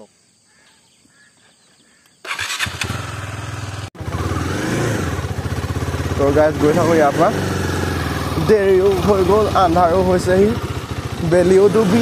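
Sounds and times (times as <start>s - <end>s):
motorcycle engine starting and idling: 2.2s - 12.0s.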